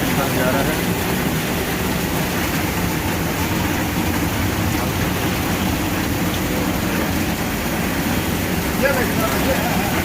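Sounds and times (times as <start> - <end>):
heavy rain pouring: 0.0 - 10.0
water rushing from overflowing drain: 0.0 - 10.0.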